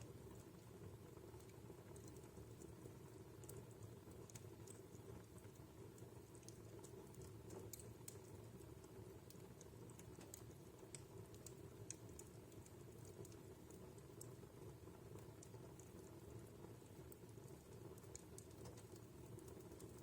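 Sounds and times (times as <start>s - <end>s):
wood fire crackling: 0.0s - 20.0s
sharp pops and ticks: 3.3s - 20.0s.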